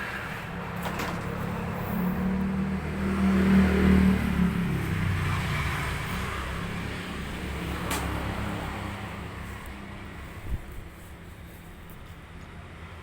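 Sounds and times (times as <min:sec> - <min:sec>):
vehicle engine passing by: 0:00.0 - 0:10.6.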